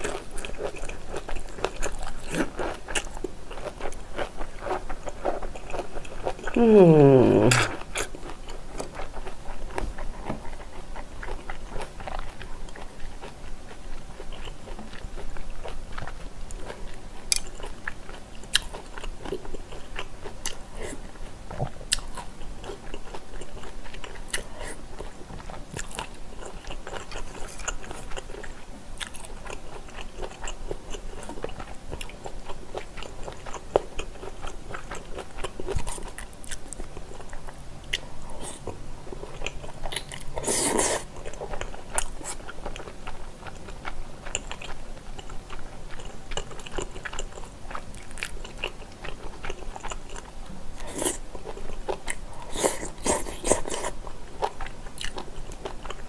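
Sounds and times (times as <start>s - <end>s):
person chewing with wet smacks: 0.0s - 56.0s.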